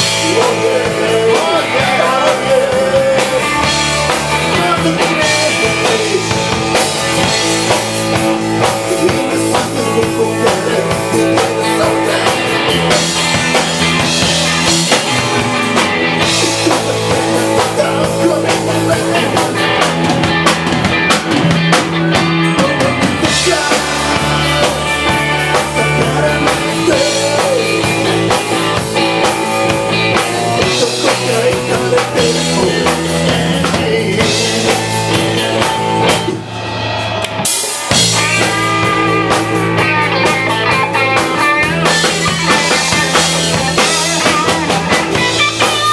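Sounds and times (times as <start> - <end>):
drum kit: 0.0 - 45.9
electric guitar: 0.0 - 45.9
live rock band playing: 0.0 - 45.9.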